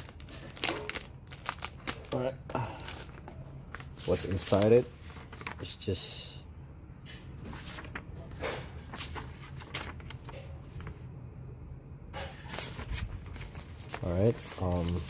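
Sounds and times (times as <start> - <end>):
paper leaflets rustling: 0.0 - 5.8, 7.4 - 11.0, 12.4 - 15.0
low steady hum: 0.0 - 15.0.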